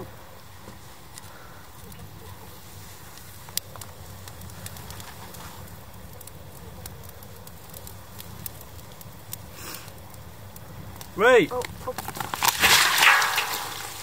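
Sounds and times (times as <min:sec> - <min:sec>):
twig fire crackling and popping: 0:00.0 - 0:14.0.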